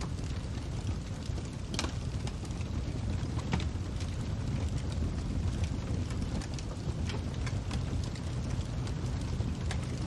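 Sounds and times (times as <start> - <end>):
fire crackling and popping: 0.0 - 10.0.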